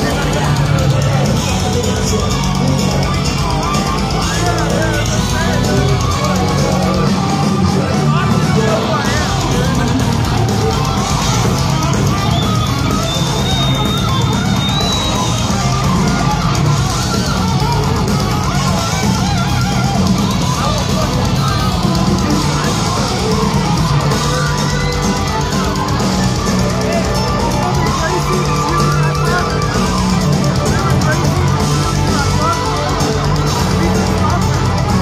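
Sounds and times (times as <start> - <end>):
heavy metal band playing: 0.0 - 35.0.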